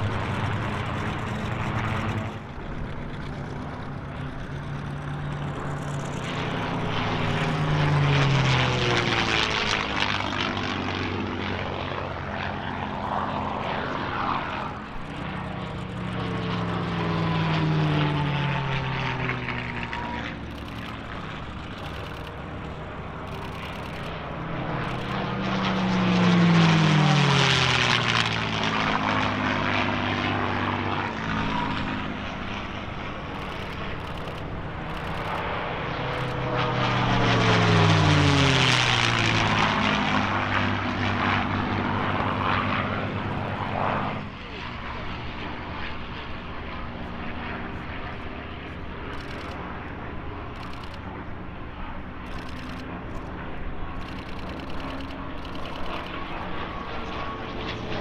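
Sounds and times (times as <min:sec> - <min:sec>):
propeller plane engine passing: 0:00.0 - 0:58.0.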